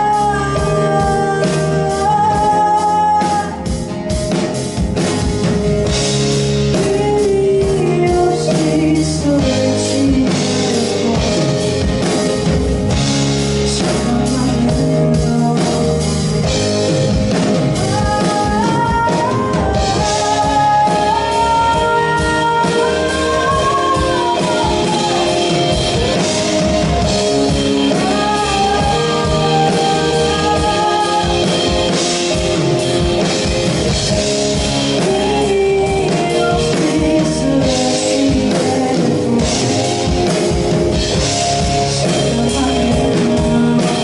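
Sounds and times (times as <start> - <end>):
drum kit: 0.0 - 44.0
electric guitar: 0.0 - 44.0
person singing: 0.0 - 44.0.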